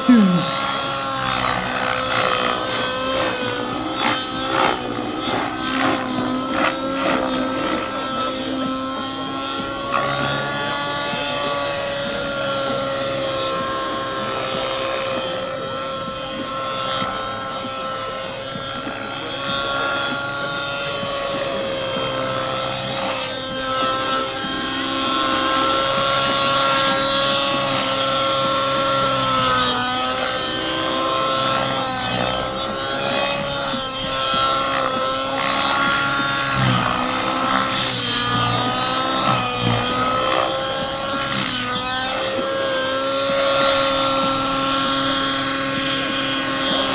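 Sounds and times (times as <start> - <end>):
model helicopter engine whine: 0.0 - 46.9.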